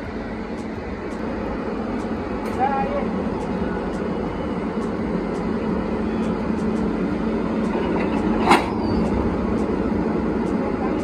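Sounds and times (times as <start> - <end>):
locomotive cab rumble and hum: 0.0 - 11.0.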